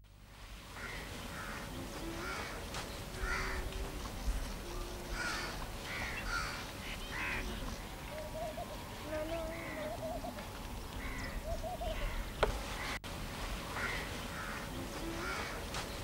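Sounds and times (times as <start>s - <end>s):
birds calling: 0.8s - 13.0s, 13.7s - 16.0s.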